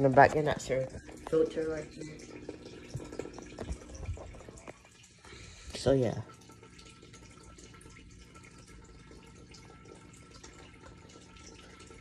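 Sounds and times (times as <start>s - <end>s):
filter hum: 0.0s - 12.0s
water trickling and splashing: 0.0s - 12.0s.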